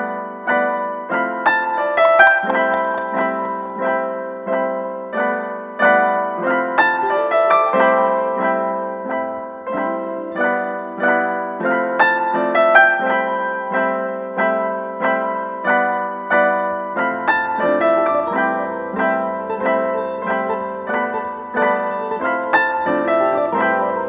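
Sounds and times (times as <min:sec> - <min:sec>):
slow piano notes: 0:00.0 - 0:24.0.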